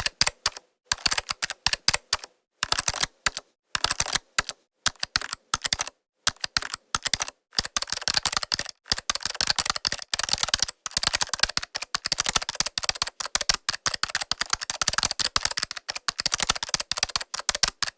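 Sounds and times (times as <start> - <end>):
laptop keyboard typing: 0.0 - 17.9.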